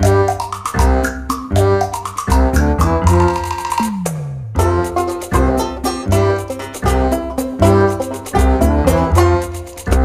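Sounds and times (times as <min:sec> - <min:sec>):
background music with drums: 0:00.0 - 0:10.0.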